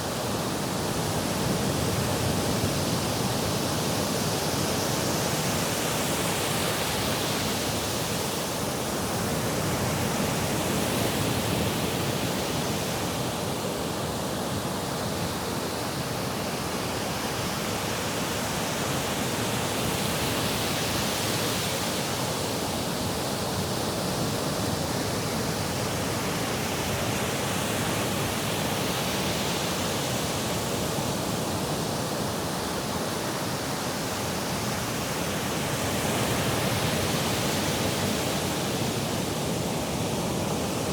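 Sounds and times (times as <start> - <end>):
waves washing on shore: 0.0 - 40.9.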